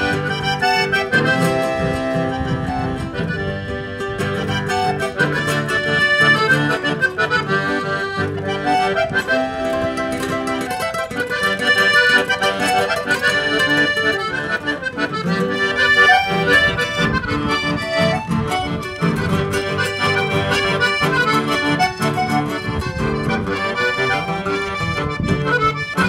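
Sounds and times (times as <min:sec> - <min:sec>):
acoustic guitar accompaniment: 0:00.0 - 0:26.0
piano accordion melody: 0:00.0 - 0:26.0.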